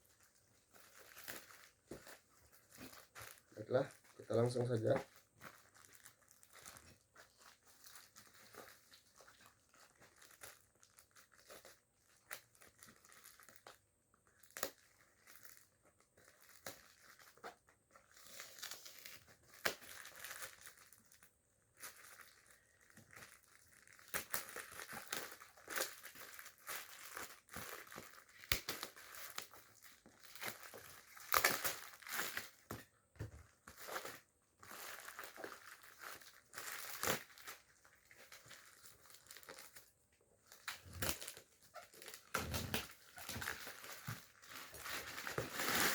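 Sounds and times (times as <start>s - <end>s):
packaging crinkling and tearing: 0.0s - 45.9s.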